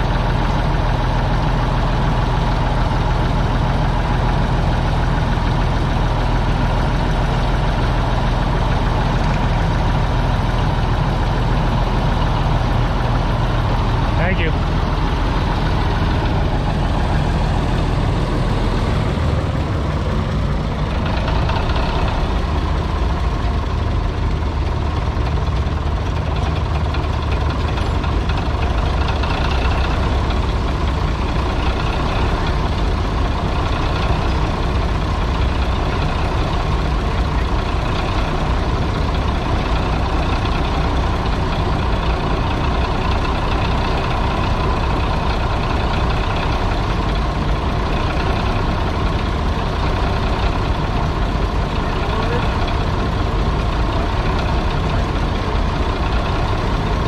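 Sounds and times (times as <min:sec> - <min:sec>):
bulldozer engine running: 0:00.0 - 0:57.0.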